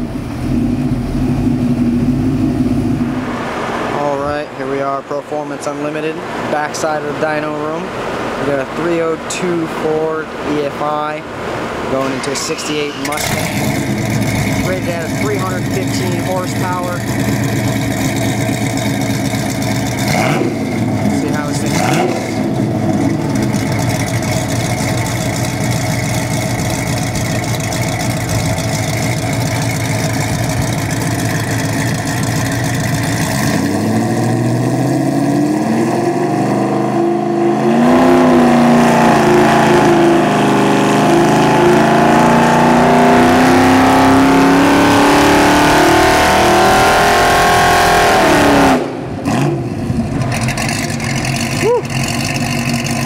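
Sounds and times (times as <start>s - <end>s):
engine idling and revving: 0.0s - 53.0s.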